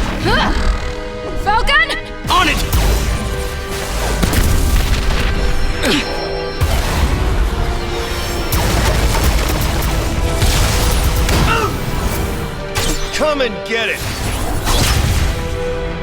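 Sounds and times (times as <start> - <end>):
soundtrack music: 0.0 - 16.0.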